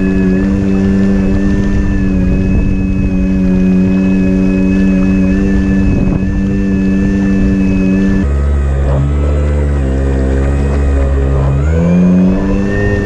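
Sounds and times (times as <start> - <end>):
electric motor humming and whining: 0.0 - 13.0
water rushing along hull: 0.0 - 13.0.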